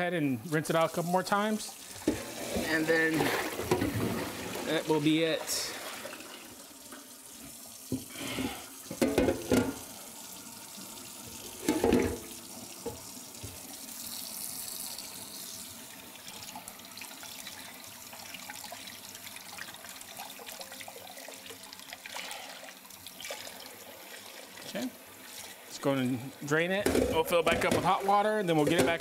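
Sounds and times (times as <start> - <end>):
faucet running into sink: 0.5 - 26.2.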